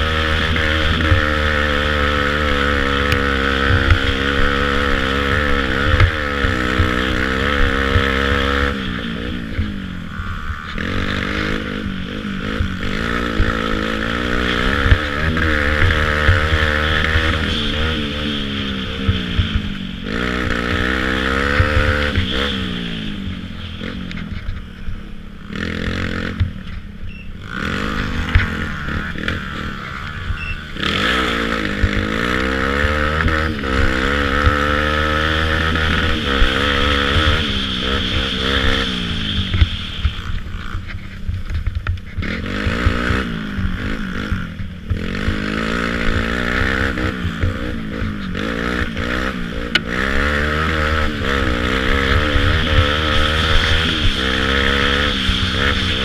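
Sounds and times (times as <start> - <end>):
atv engine revving: 0.0 - 56.0
sharp knocks over rough trail: 0.0 - 56.0.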